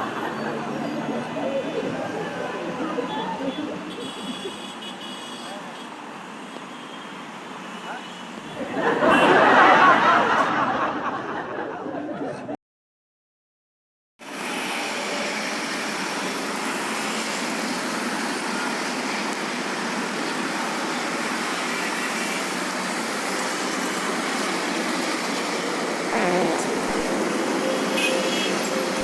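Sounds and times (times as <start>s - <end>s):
road traffic hum: 0.0s - 11.6s, 14.3s - 29.0s.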